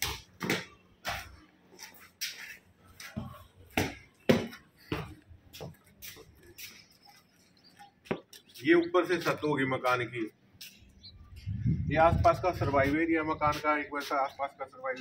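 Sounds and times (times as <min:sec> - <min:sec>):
hard-soled footsteps on concrete: 0:00.0 - 0:14.2.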